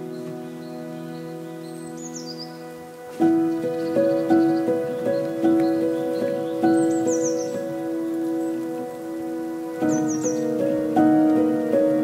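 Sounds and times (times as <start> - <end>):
faint high bird chirps: 0.0 - 8.7, 9.8 - 10.8
calm instrumental music: 0.0 - 12.0.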